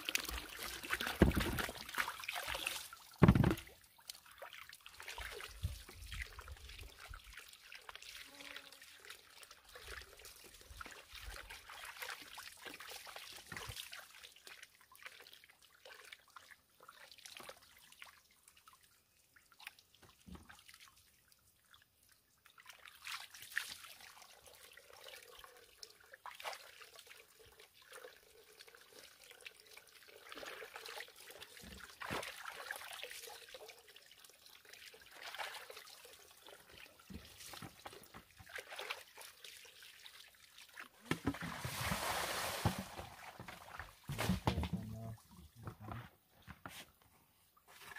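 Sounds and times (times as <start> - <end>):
water trickling into basin: 0.0 - 44.1
small water splashes and drips: 0.0 - 45.7, 47.5 - 47.9.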